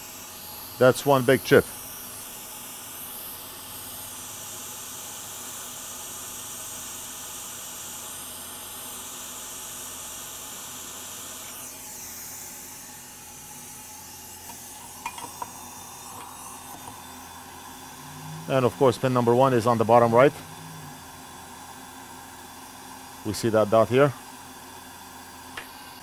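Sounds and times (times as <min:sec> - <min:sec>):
hot air station hissing: 0:00.0 - 0:26.0.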